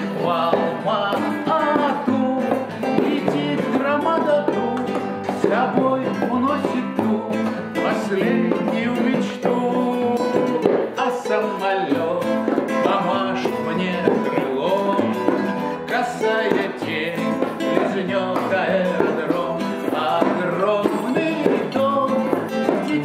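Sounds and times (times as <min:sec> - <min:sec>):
classical guitar strummed and picked: 0:00.0 - 0:23.0
man singing: 0:00.0 - 0:23.0.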